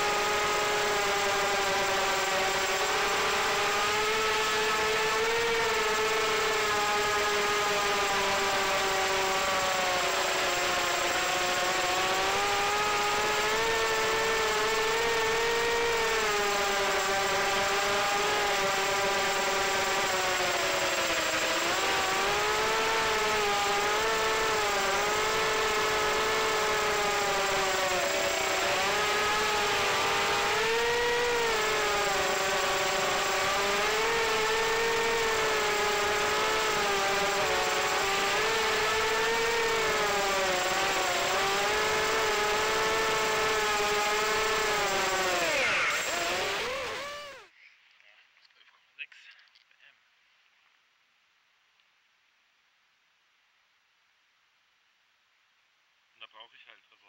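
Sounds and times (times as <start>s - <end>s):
drone motors whining: 0.0s - 47.5s.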